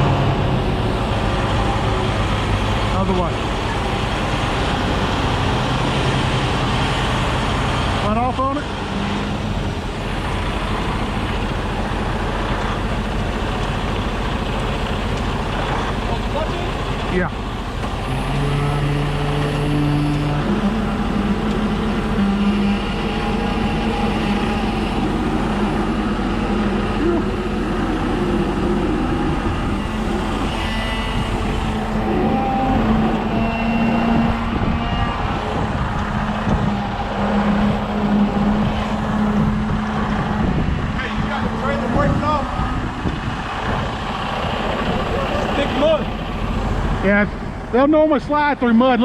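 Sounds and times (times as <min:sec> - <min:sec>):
diesel truck engine rumbling: 0:00.0 - 0:49.0.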